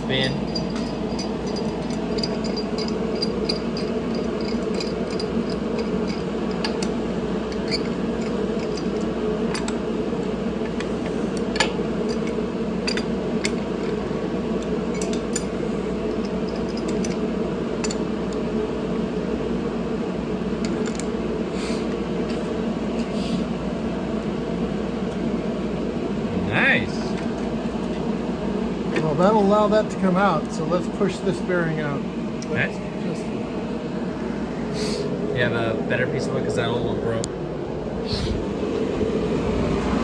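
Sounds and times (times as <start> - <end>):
background hum: 0.0 - 40.0.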